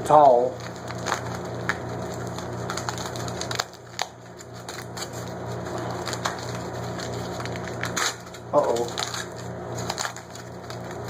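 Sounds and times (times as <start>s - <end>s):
aluminium foil crinkling: 0.2s - 11.0s.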